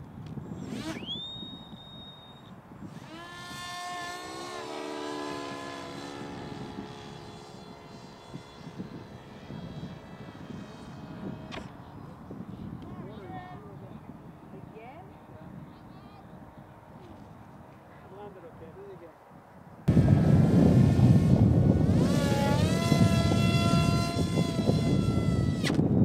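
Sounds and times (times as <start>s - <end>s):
model plane motor whine: 0.2s - 15.2s, 19.9s - 26.0s.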